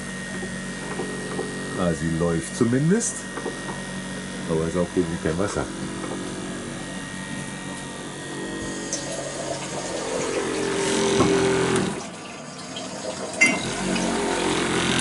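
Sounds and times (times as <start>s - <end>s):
electric water pump humming: 0.0s - 15.0s.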